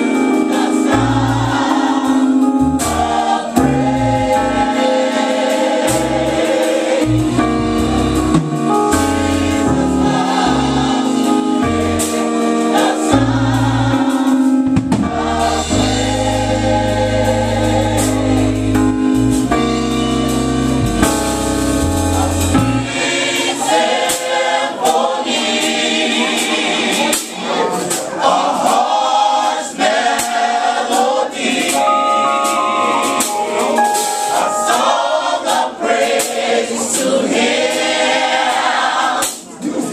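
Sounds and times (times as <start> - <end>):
band accompaniment: 0.0 - 39.8
gospel choir singing: 0.0 - 39.9.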